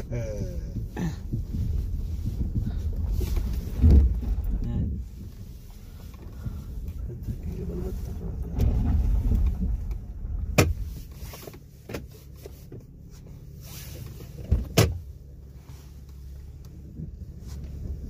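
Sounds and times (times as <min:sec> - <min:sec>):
truck rumbling on dirt track: 0:00.0 - 0:18.0.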